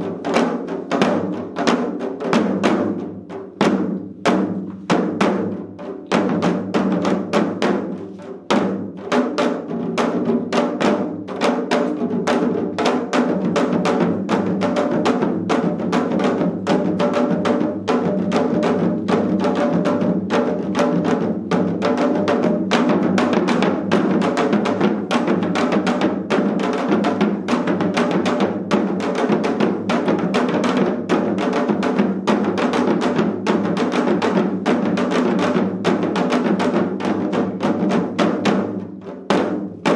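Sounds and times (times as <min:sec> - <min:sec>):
hourglass drums played with sticks: 0:00.0 - 0:39.9.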